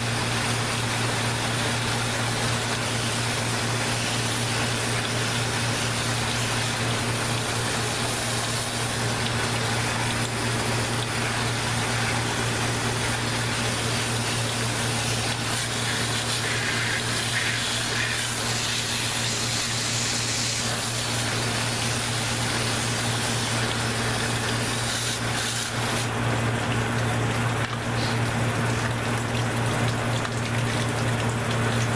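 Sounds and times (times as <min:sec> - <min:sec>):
pump motor hum: 0:00.0 - 0:31.9
water spraying from hose: 0:00.0 - 0:31.9.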